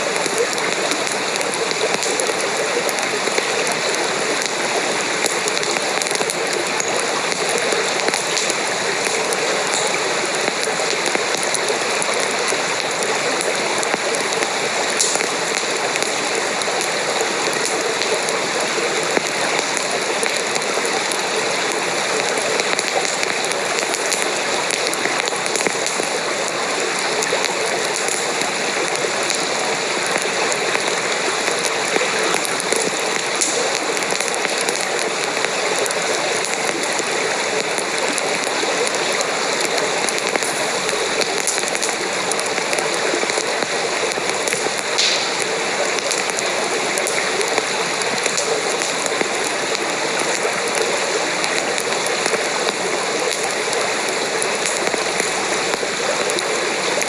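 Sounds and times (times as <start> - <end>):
campfire hissing: 0.0 - 57.0
fire pops and crackles: 0.0 - 57.0.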